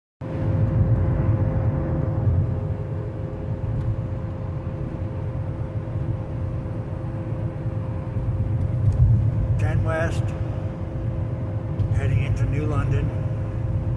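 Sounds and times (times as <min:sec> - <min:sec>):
constant whine: 0:00.2 - 0:13.9
road rumble: 0:00.2 - 0:13.9.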